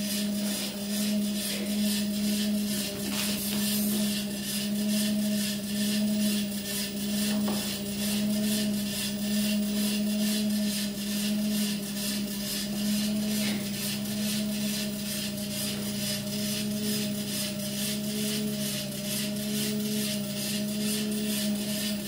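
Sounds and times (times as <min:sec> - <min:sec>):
treadmill belt ticking: 0:00.0 - 0:22.0
treadmill motor hum: 0:00.0 - 0:22.0.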